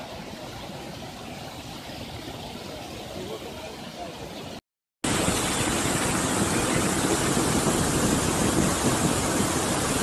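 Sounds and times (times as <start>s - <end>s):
water rushing over a weir: 0.0s - 10.0s.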